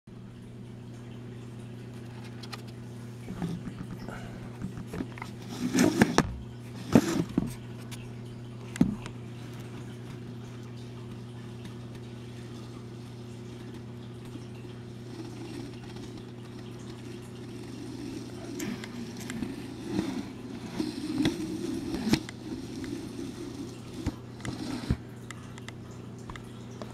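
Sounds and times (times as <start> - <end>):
low electrical hum: 0.1 - 26.9.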